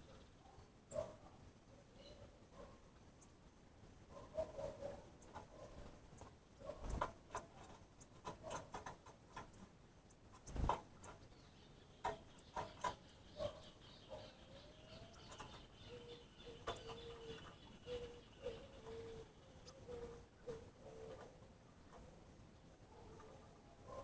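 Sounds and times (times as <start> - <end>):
soft low bird calls: 4.1 - 24.0.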